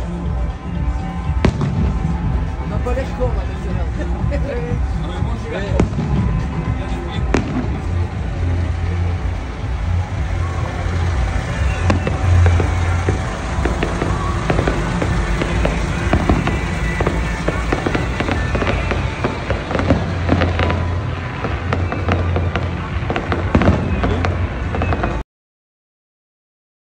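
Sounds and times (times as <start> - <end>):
background music: 0.0 - 25.2
truck engines idling: 0.0 - 25.2.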